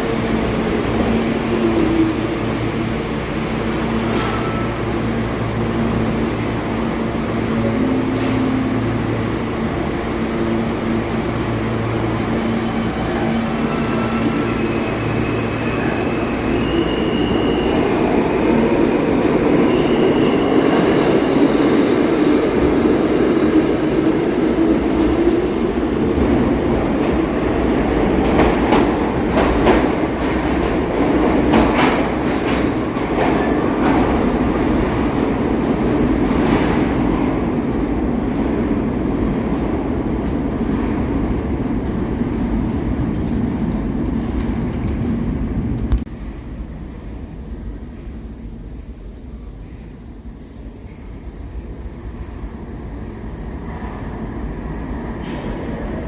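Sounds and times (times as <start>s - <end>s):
subway train rumbling on rails: 0.0s - 56.0s.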